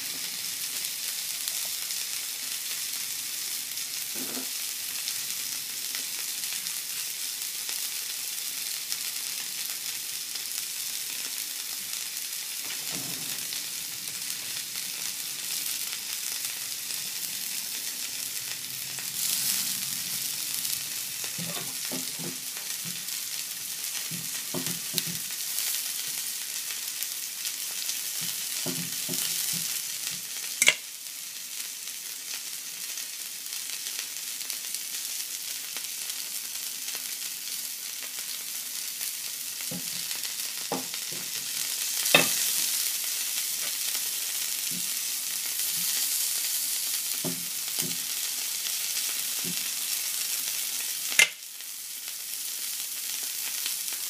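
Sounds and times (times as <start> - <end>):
steak sizzling in oil: 0.0 - 54.0.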